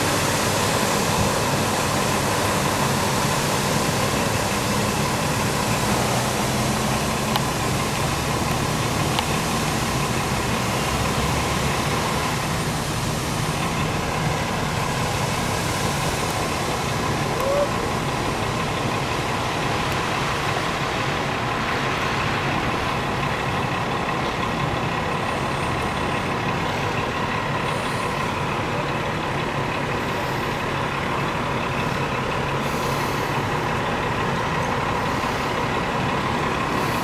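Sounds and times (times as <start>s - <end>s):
fire engine idling: 0.0s - 37.0s
water rushing from hydrant: 0.0s - 37.0s.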